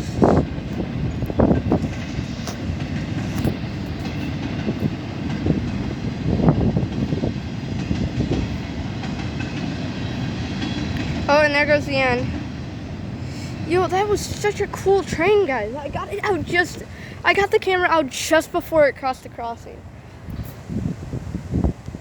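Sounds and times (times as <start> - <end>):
wheels clacking over rail joints: 0.0 - 19.6
steel wheels rumbling on rail: 0.0 - 22.0.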